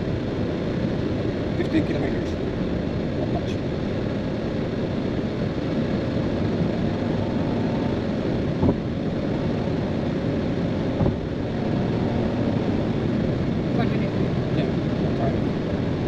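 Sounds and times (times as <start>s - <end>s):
car road and tyre noise: 0.0s - 16.0s.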